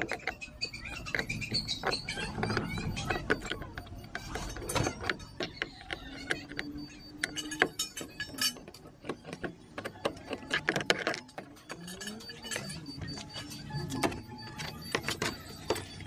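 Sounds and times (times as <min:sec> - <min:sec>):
clicks and knocks on plastic: 0:00.0 - 0:16.0.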